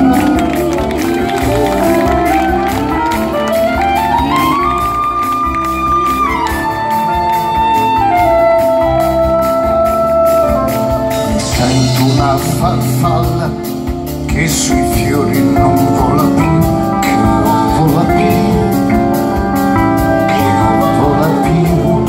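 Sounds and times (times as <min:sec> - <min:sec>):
bass: 0:00.0 - 0:22.0
drums: 0:00.0 - 0:22.0
jazz lead line gliding notes: 0:00.0 - 0:22.0.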